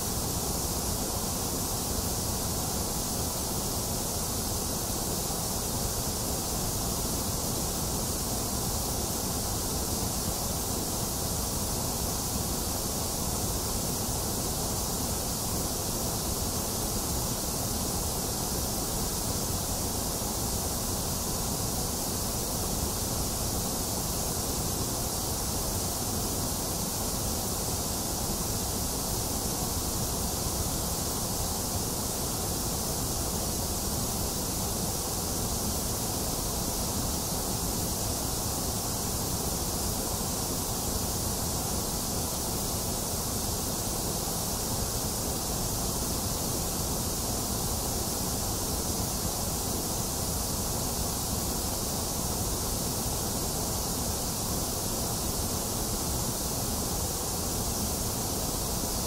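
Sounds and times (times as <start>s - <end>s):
steady white noise: 0.0s - 59.0s.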